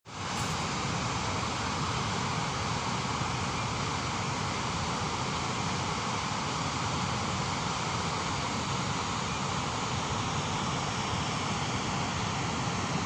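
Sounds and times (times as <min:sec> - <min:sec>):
waterfall roaring: 0:00.1 - 0:13.0.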